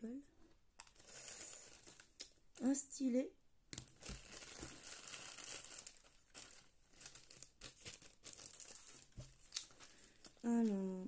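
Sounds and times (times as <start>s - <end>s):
plastic bag crinkling: 0.8s - 2.7s, 3.8s - 11.0s.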